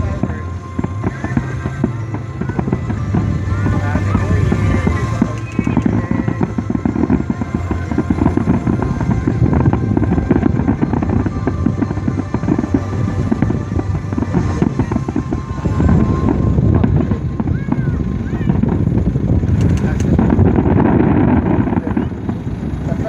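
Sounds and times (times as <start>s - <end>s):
fireworks bangs and crackling: 0.0s - 23.0s
music playing: 0.0s - 23.0s.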